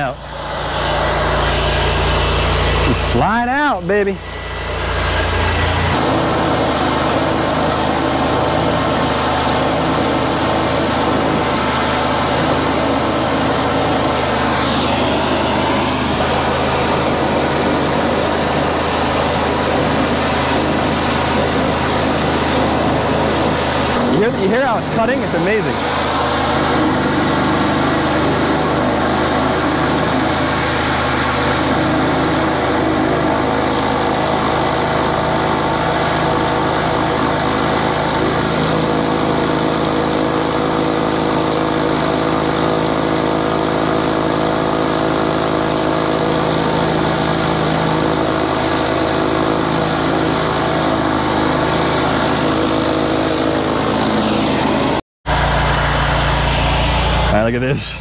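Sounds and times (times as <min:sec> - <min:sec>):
jetter pump running: 0:00.0 - 0:58.0
water jet spraying on wood: 0:05.9 - 0:55.0.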